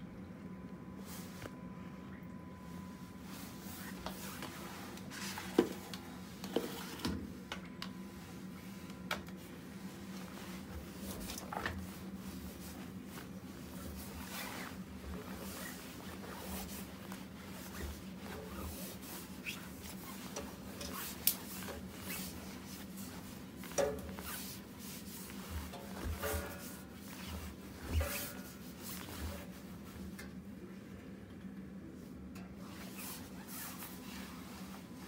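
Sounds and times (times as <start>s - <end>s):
washing machine motor hum: 0.0s - 35.0s.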